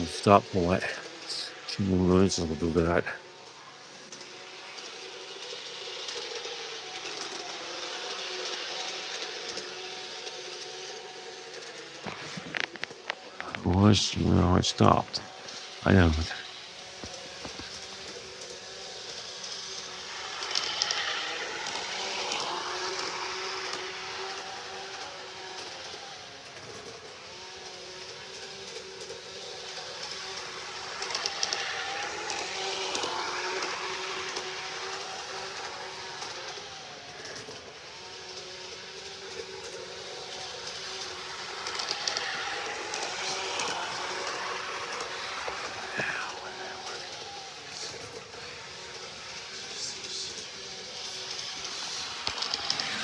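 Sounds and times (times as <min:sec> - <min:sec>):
model train motor hum: 0:00.0 - 0:53.0.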